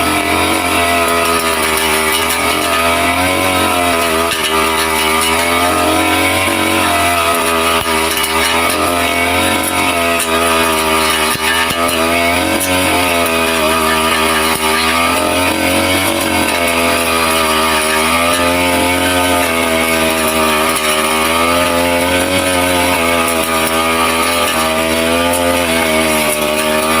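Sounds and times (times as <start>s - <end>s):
small petrol engine running: 0.0s - 27.0s.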